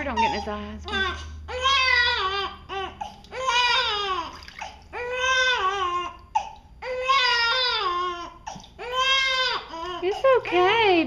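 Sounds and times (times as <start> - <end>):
newborn baby crying: 0.0 - 11.0.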